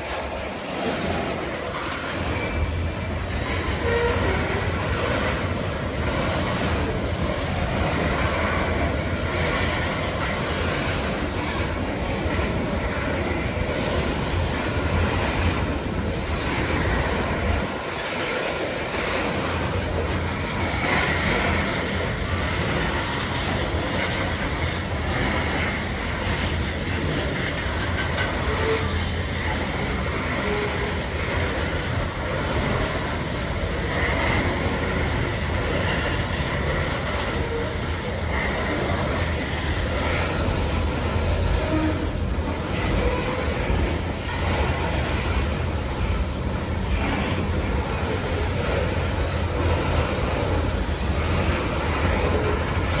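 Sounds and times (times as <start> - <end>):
train rumbling past: 0.0 - 53.0
wheels clacking over rail joints: 0.0 - 53.0.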